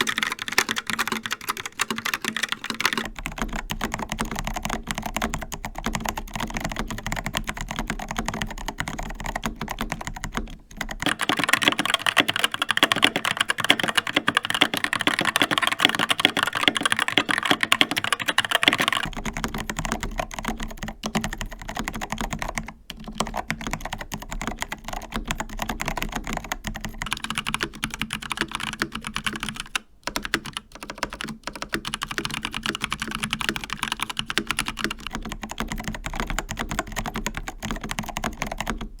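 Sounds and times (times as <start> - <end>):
fast typing on mechanical keyboard: 0.0 - 39.0.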